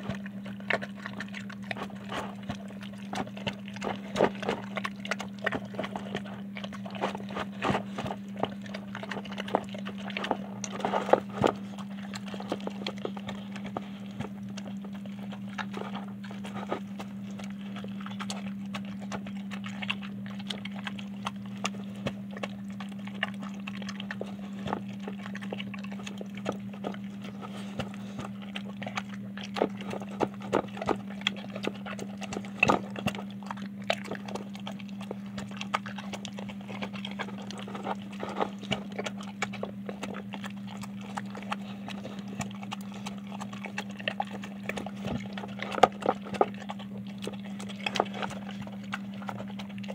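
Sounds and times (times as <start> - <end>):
dog chewing and lapping: 0.0 - 49.9.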